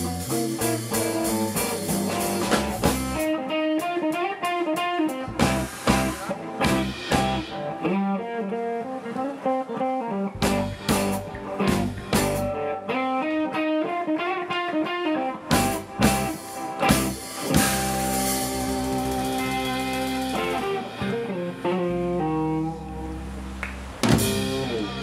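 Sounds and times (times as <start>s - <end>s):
electric bass: 0.0s - 4.1s, 4.8s - 8.2s, 10.3s - 13.8s, 15.4s - 25.0s
drum kit: 0.0s - 8.5s, 10.3s - 13.6s, 15.4s - 22.6s, 24.0s - 25.0s
electric guitar: 0.0s - 25.0s.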